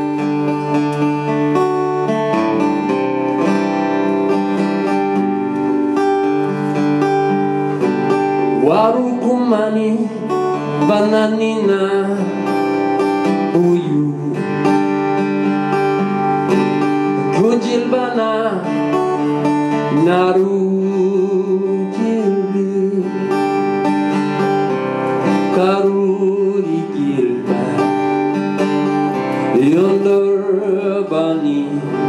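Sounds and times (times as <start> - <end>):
acoustic guitar picking: 0.0 - 32.0.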